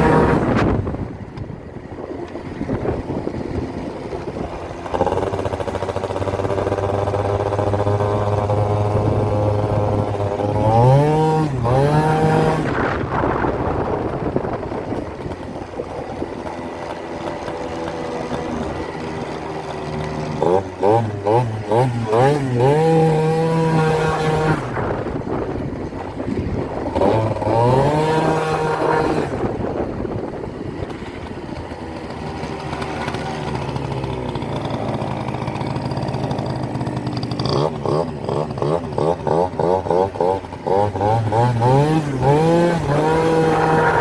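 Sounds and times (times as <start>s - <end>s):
two-stroke scooter engine revving: 0.0s - 44.0s.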